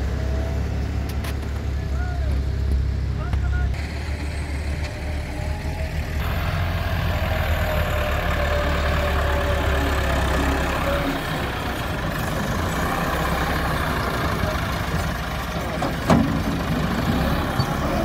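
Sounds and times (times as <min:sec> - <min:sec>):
tractor diesel engine humming: 0:00.0 - 0:18.0.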